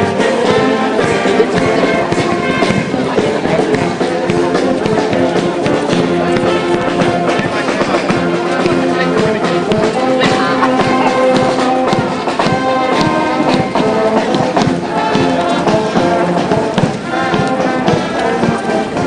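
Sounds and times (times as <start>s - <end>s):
brass band playing: 0.0s - 19.0s.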